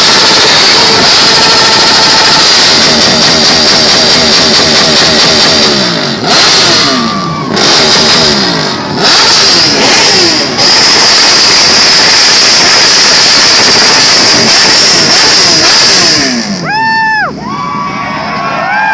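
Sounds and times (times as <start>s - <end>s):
motorcycle engines revving: 0.0s - 17.6s.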